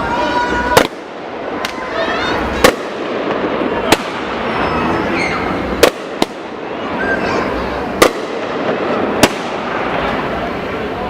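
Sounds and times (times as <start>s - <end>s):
firecrackers crackling: 0.0s - 11.0s
fireworks bangs: 0.0s - 11.0s.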